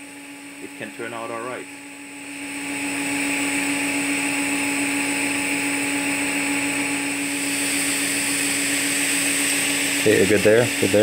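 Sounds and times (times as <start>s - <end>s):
welding arc buzzing: 0.0s - 11.0s.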